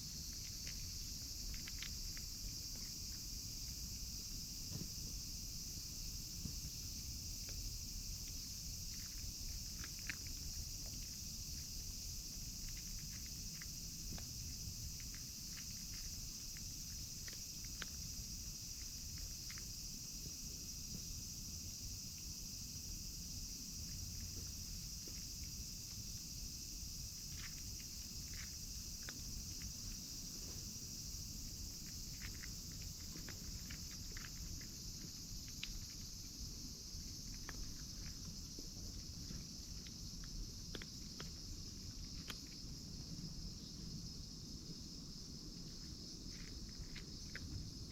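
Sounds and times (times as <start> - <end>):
crickets and insects chirring: 0.0 - 47.9.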